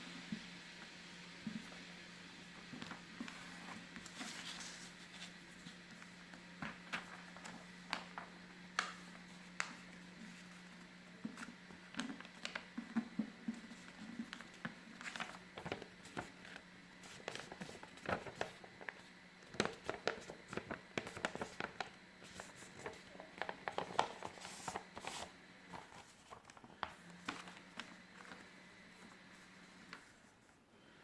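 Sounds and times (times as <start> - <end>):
paper being folded and creased: 2.8 - 30.6.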